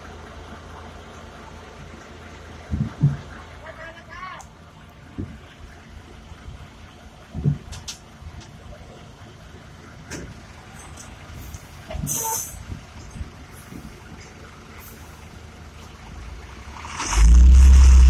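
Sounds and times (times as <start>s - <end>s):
heavy diesel machinery rumbling: 0.0s - 18.0s.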